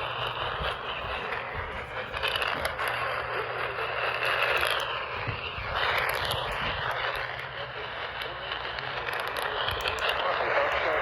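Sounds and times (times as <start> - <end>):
radio crackles: 0.0 - 11.0
radio static hiss: 0.0 - 11.0.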